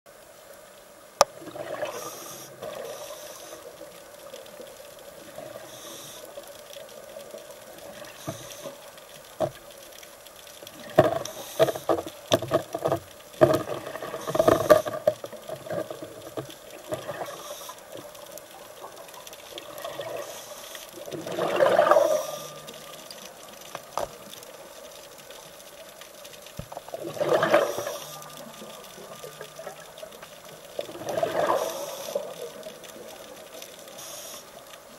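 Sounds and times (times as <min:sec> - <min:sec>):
sharp clicks and crackles: 0:00.1 - 0:34.9
underwater bubbling: 0:00.1 - 0:34.9.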